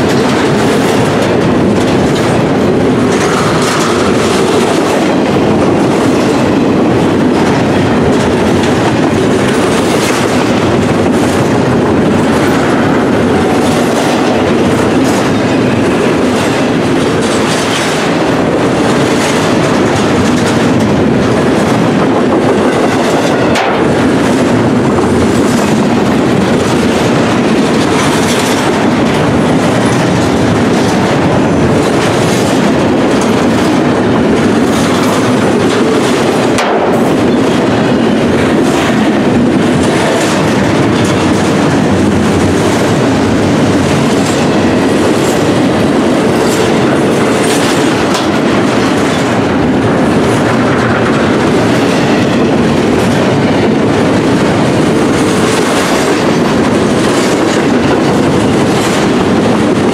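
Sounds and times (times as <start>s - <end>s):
steel wheels clacking on rail joints: 0.0s - 59.9s
train cars rumbling past: 0.0s - 59.9s.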